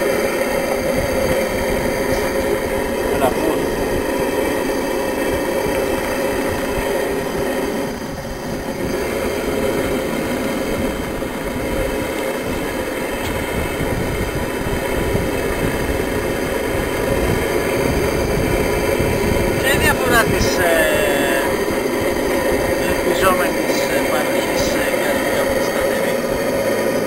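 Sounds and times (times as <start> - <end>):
model steam engine hissing: 0.0 - 27.0.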